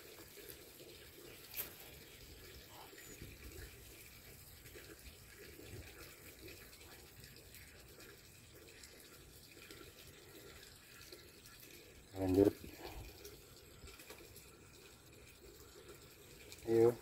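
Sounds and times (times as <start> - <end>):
faint water trickle: 0.0 - 17.0.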